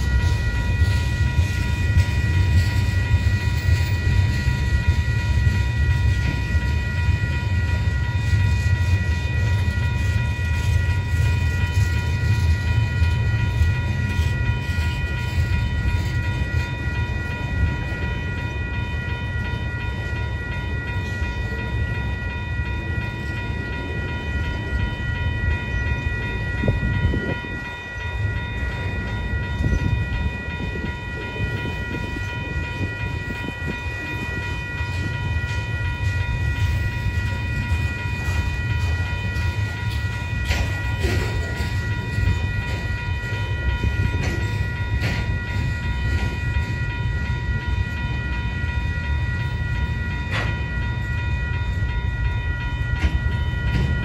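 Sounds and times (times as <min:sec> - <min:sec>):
freight train rumbling: 0:00.0 - 0:54.0
high-pitched ringing tone: 0:00.0 - 0:54.0.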